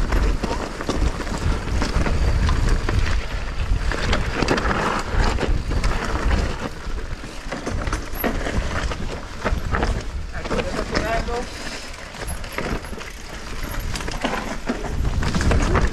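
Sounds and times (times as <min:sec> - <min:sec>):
bike rattling and knocking: 0:00.0 - 0:15.9
tyres running over dirt and roots: 0:00.0 - 0:15.9.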